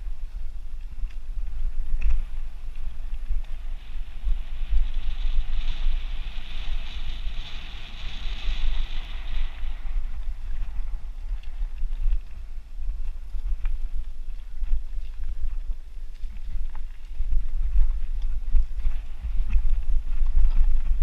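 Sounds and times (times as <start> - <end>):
bike tyres rolling on dirt: 0.0 - 21.0
wind buffeting microphone: 0.0 - 21.0.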